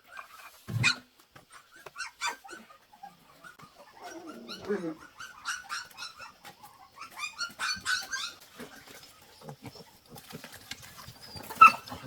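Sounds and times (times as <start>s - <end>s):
puppies whimpering: 1.6s - 10.3s, 10.9s - 12.0s.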